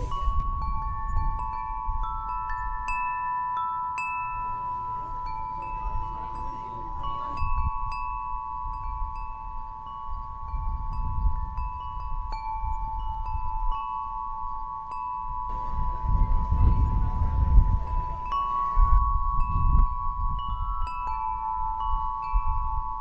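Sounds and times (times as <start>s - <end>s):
chimes ringing: 0.0s - 23.0s.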